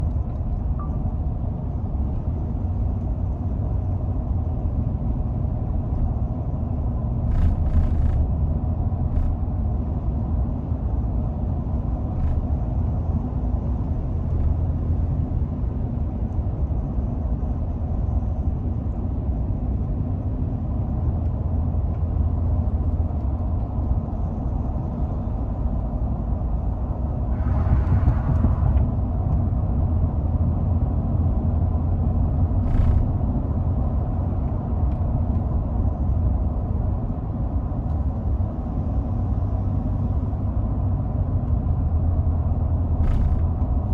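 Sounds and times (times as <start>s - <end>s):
road and drivetrain rumble: 0.0s - 43.9s.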